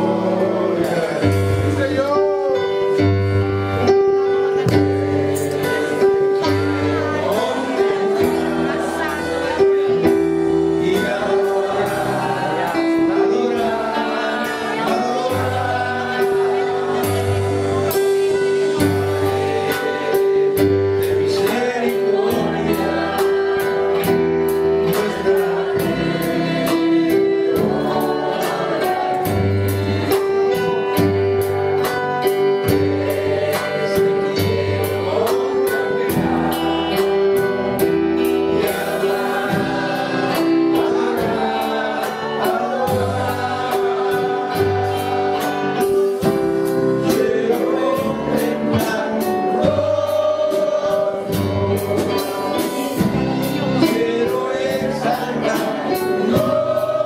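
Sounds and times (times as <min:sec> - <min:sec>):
electric guitar: 0:00.0 - 0:57.0
voices singing together: 0:00.0 - 0:57.0.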